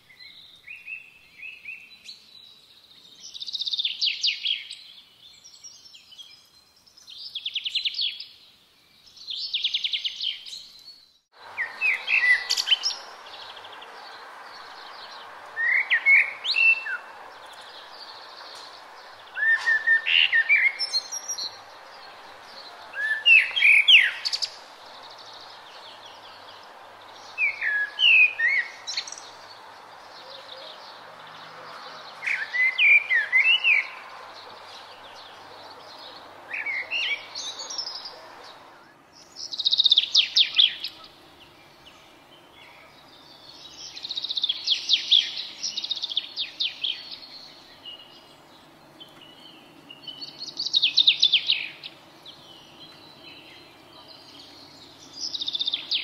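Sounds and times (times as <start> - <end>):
songbird singing: 0.0 - 56.0
steady background hiss: 0.0 - 56.0.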